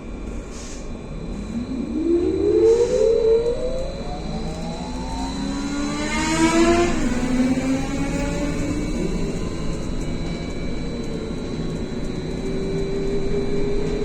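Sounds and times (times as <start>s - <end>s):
electric trolleybus motor whining: 0.0s - 14.0s.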